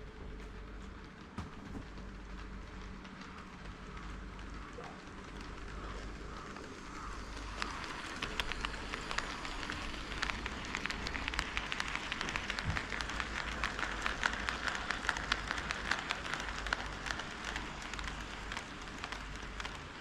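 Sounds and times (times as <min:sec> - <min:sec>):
wheels clicking over rail joints: 0:00.0 - 0:20.0
model train rolling hiss: 0:02.7 - 0:20.0.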